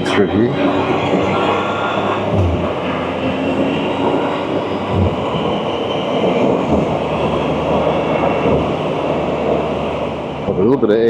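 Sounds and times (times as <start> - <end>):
motorcycle engine: 0.0 - 8.9
wind rushing over helmet microphone: 0.0 - 11.0.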